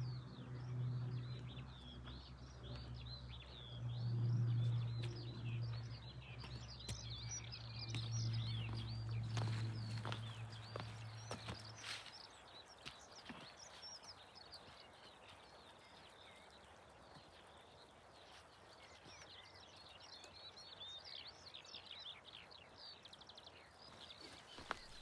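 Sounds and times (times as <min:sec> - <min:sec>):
faint birdsong chirps and trills: 0:00.0 - 0:25.0.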